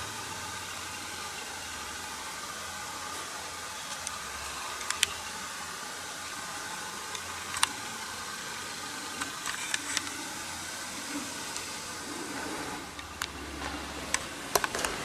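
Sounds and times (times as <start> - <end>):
recording noise hiss: 0.0 - 15.0.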